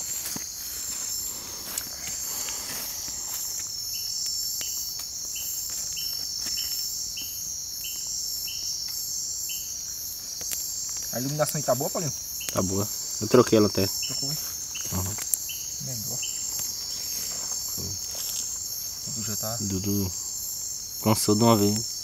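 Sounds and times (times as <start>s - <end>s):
crickets chirring: 0.0s - 22.0s
insect short chirps: 0.0s - 22.0s.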